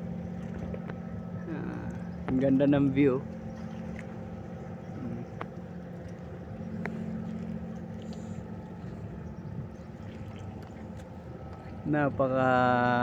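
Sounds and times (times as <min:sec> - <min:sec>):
engine running low hum: 0:00.0 - 0:13.0.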